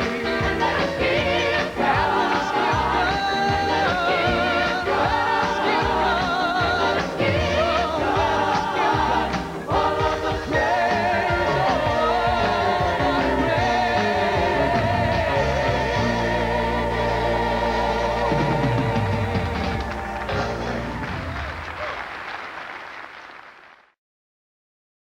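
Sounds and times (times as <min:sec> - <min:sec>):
gospel singing with accompaniment: 0:00.0 - 0:21.8.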